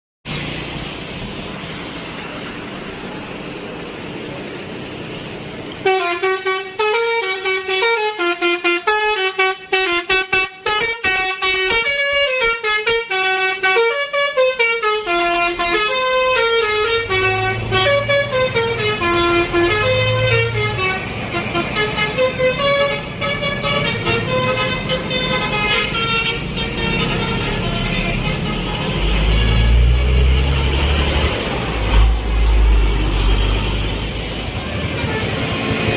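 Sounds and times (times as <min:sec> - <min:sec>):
road and engine noise: 0:00.2 - 0:35.9
bus horn playing a tune: 0:05.8 - 0:35.9.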